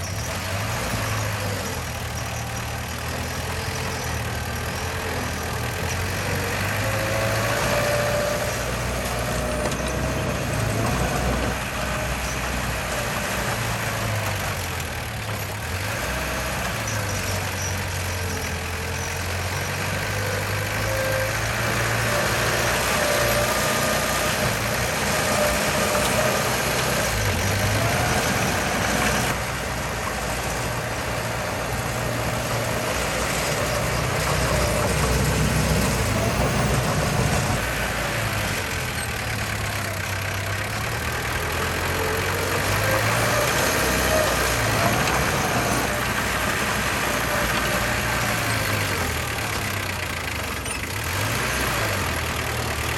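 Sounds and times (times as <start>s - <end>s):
heavy diesel engine running: 0.0s - 52.9s.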